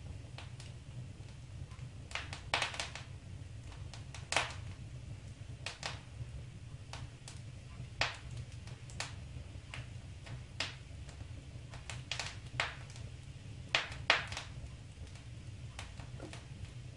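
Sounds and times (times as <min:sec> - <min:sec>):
wood fire crackling: 0:00.0 - 0:16.9.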